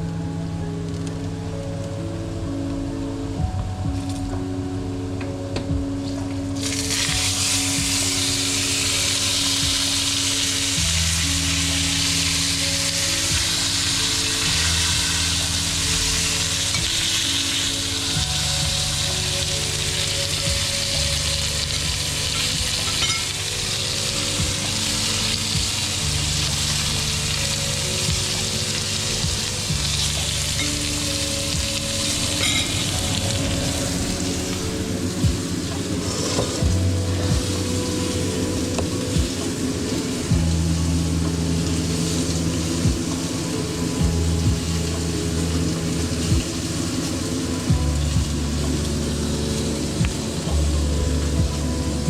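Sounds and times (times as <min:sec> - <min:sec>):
steak sizzling in a hot pan: 0:06.6 - 0:52.0.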